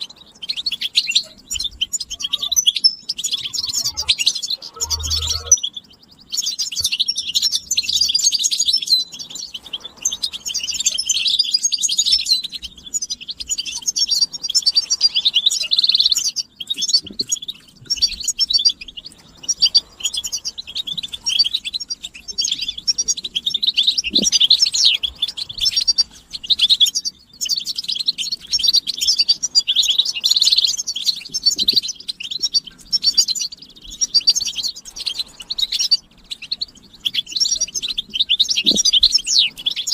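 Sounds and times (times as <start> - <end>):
goldfinches twittering and singing: 0.0 - 39.9.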